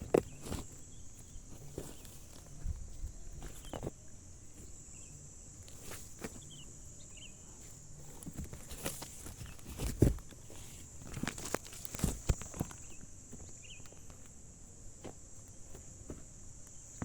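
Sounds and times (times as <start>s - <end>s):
soft scuffling steps: 0.0s - 17.0s.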